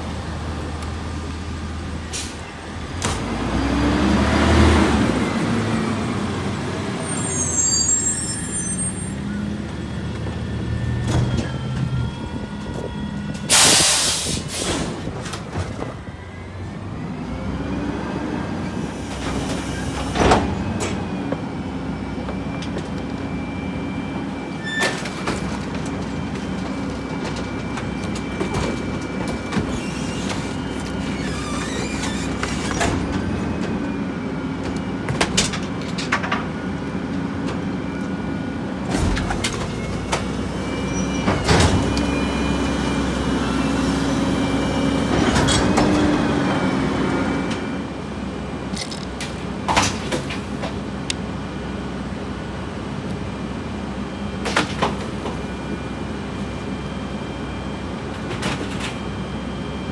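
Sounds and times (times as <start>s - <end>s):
diesel engine with thin whine: 0.0s - 13.8s, 14.8s - 59.9s.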